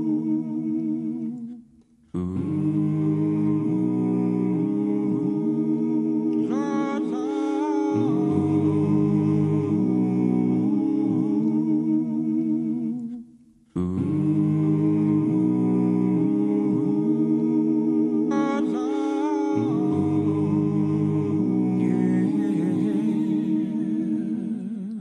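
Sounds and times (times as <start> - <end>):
man humming: 2.2 - 13.2, 13.8 - 25.0.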